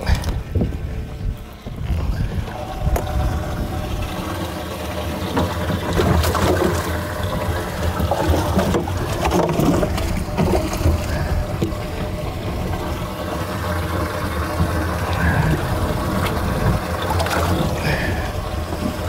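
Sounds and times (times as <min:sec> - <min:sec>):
boat motor rumbling: 0:00.0 - 0:19.0.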